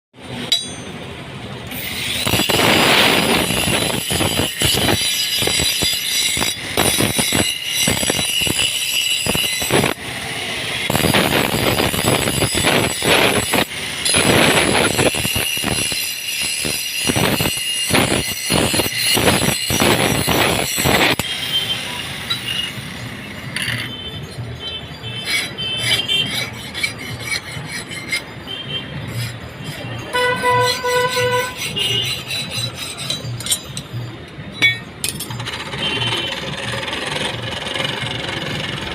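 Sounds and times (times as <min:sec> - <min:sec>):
metal scraping with high squeal: 0:01.7 - 0:10.0, 0:10.8 - 0:38.9.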